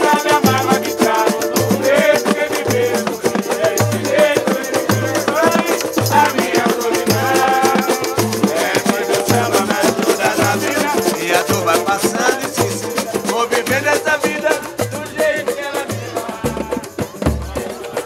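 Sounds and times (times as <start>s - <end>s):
small guitars strumming: 0.0s - 17.9s
hand drum bass notes: 0.0s - 18.0s
people singing: 0.0s - 18.0s
tambourines jingling: 0.0s - 18.0s.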